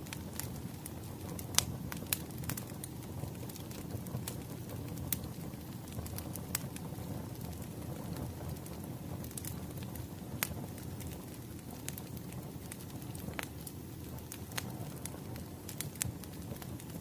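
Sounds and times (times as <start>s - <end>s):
firewood burning and crackling: 0.0s - 17.0s.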